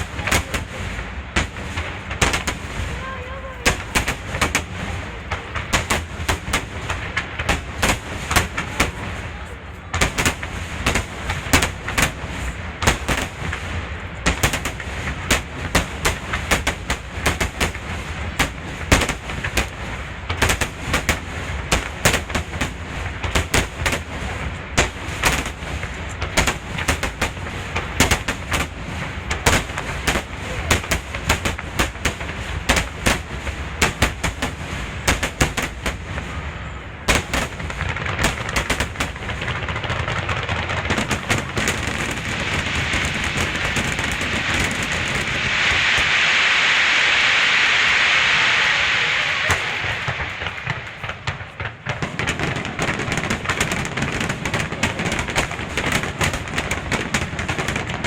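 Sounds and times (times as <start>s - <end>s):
fireworks bursting: 0.0s - 58.0s
fireworks crackling hiss: 0.0s - 58.0s.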